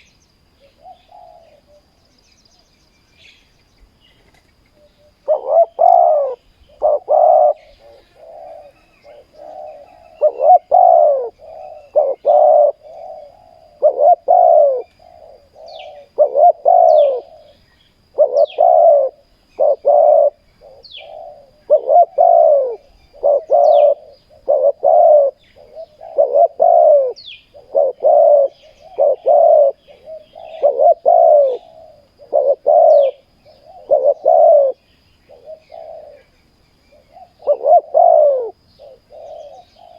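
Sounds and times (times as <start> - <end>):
small birds chirping: 0.0 - 39.9
doves cooing: 0.6 - 2.7, 4.2 - 39.9.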